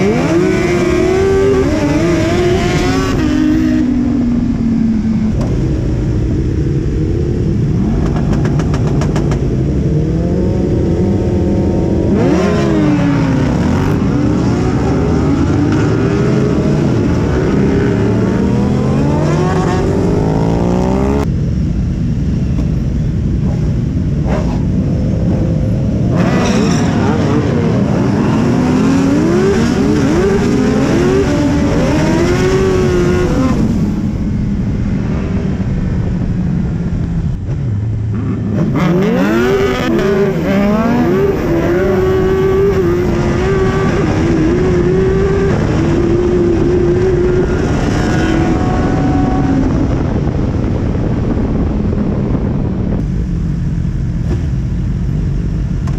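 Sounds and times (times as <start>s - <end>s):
motorcycle engine revving through gears: 0.0s - 21.3s, 23.4s - 34.3s, 37.3s - 53.1s.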